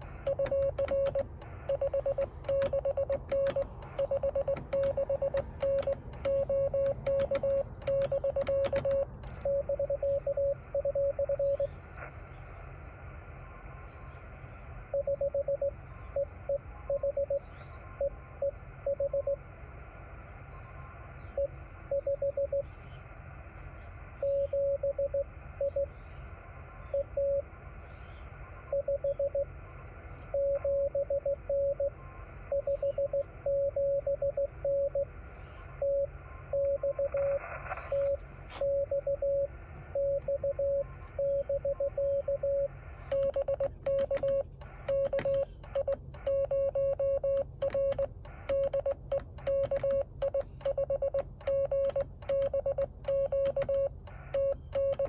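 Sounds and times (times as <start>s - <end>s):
morse code beeps: 0.0s - 11.7s, 14.9s - 19.4s, 21.3s - 22.7s, 24.2s - 25.9s, 27.0s - 27.4s, 28.7s - 29.5s, 30.3s - 35.1s, 35.8s - 55.0s
receiver hiss: 0.0s - 55.0s.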